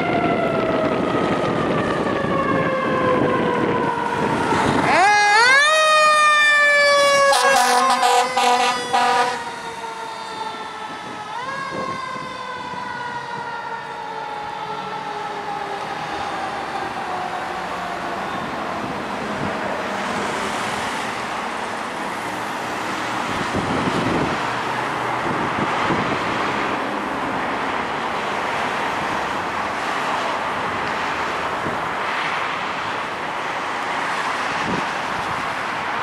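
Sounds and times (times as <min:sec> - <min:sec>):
cars passing on street: 0:00.0 - 0:36.0.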